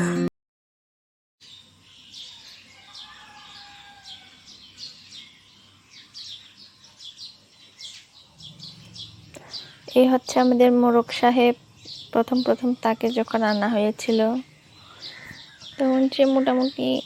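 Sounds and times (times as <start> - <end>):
birds chirping: 1.4 - 17.0.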